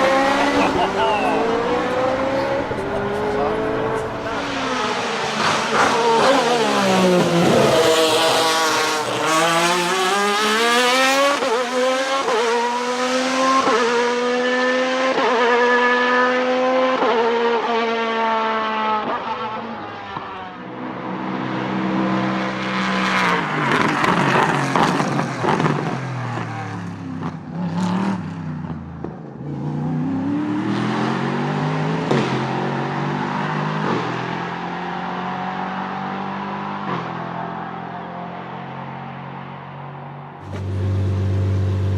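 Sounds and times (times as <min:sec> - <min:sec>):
car engine accelerating hard: 0:00.0 - 0:28.8, 0:29.4 - 0:41.9.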